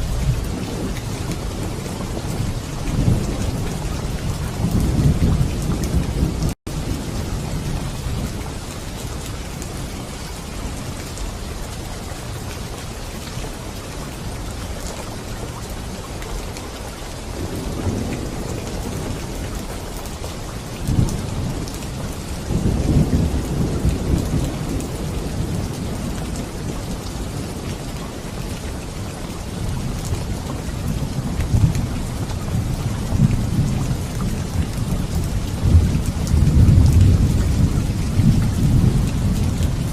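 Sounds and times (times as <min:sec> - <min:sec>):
low thunder rumbling: 0:00.0 - 0:10.8, 0:17.3 - 0:28.5, 0:29.5 - 0:39.9
steady rain falling: 0:00.0 - 0:39.9.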